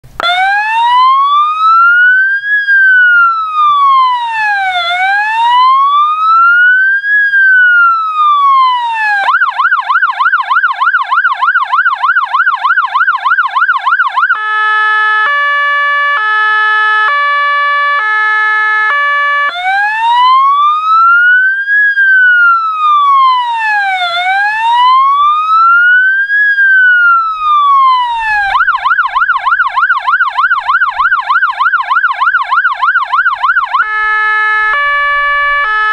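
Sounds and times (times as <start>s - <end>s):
fire engine siren: 0.0s - 35.9s.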